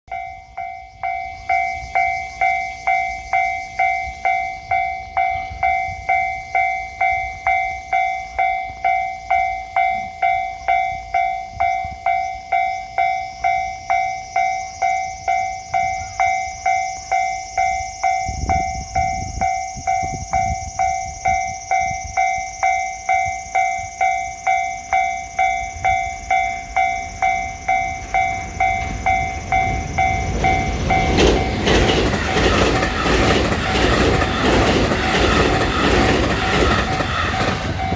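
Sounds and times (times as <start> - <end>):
level-crossing warning bell ringing: 0.1 - 37.9
low rumble of approaching train: 0.1 - 37.9.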